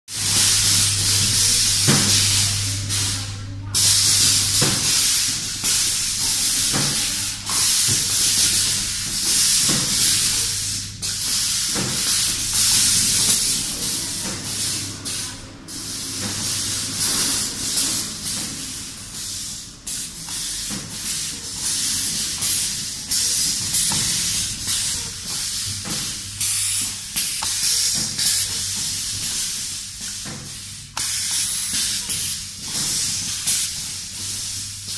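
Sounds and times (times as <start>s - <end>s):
compressed air hissing: 0.1s - 34.9s
low electrical hum: 0.1s - 34.9s.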